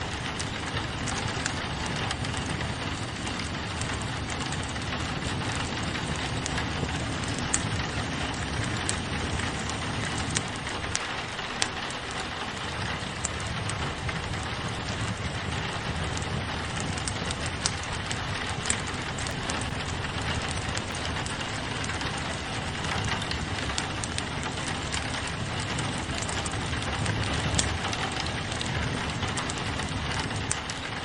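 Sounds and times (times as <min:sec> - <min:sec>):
fireplace crackling and popping: 0:00.0 - 0:31.0
rain on a window: 0:00.0 - 0:31.0.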